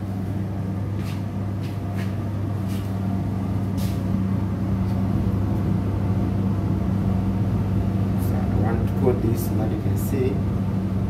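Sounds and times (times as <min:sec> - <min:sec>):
extraction fan hum: 0:00.0 - 0:11.0.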